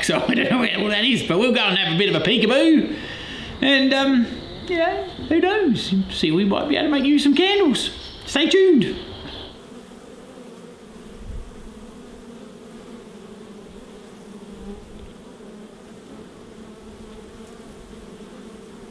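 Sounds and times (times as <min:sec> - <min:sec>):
honey bees humming: 0:00.0 - 0:18.9.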